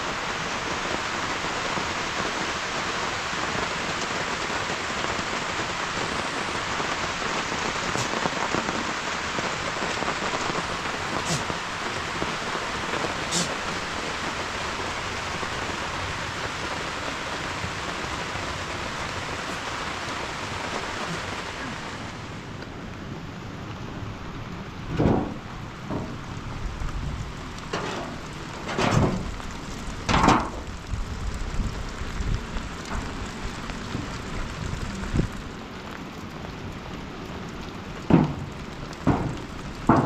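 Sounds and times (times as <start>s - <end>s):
rain hiss: 0.0s - 40.0s.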